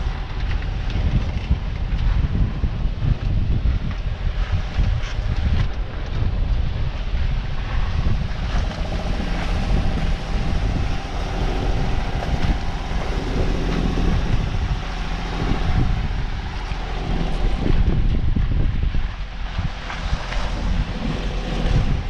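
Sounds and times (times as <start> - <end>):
boat engine running: 0.0 - 22.0
wind buffeting microphone: 0.0 - 22.0
sea noise: 4.2 - 22.0.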